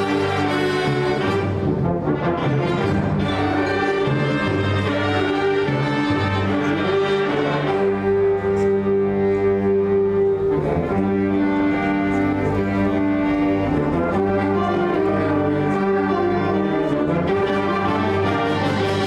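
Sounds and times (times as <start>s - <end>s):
ensemble playing held chords: 0.0s - 19.0s.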